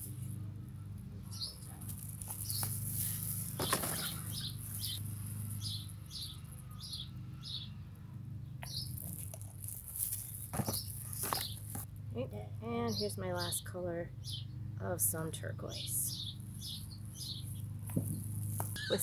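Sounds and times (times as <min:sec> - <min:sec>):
small bird chirping: 0:00.0 - 0:11.9, 0:12.7 - 0:14.6, 0:15.4 - 0:19.0
steady low hum: 0:00.0 - 0:19.0.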